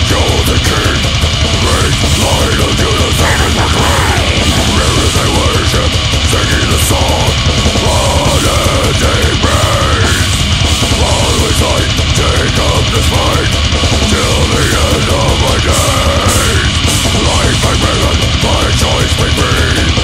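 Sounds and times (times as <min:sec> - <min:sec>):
distorted guitars: 0:00.0 - 0:20.0
fast dense drumming: 0:00.0 - 0:20.0.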